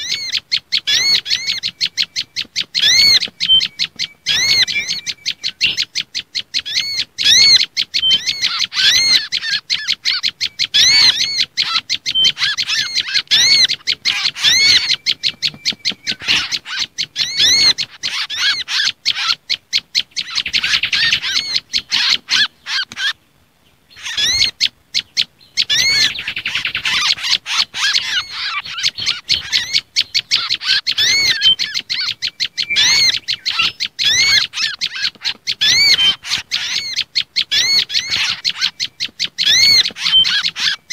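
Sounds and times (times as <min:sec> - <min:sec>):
songbirds distress chatter: 0:00.0 - 0:40.9.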